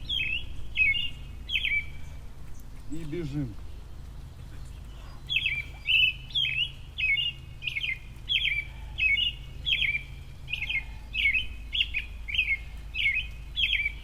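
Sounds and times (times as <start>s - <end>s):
songbird chirping call: 0.0s - 14.0s.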